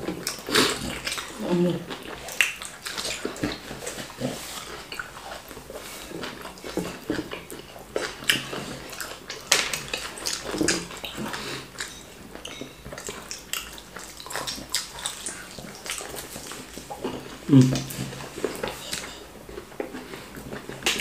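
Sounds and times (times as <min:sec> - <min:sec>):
people chewing and swallowing: 0:00.0 - 0:21.0.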